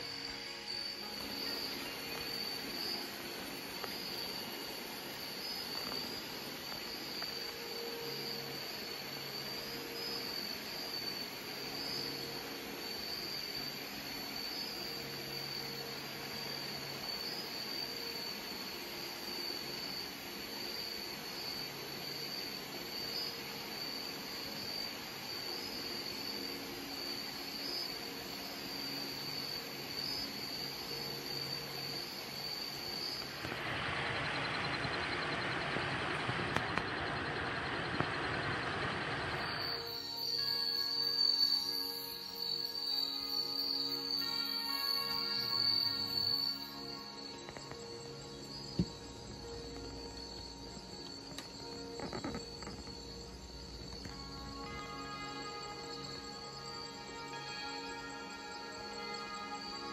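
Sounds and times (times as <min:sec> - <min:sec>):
background hiss: 0:00.0 - 0:59.9
insect chorus: 0:00.0 - 0:59.9.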